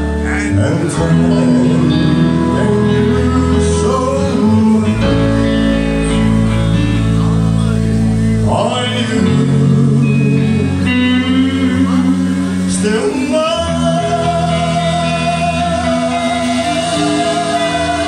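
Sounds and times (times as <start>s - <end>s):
live band playing a ballad: 0.0s - 18.0s.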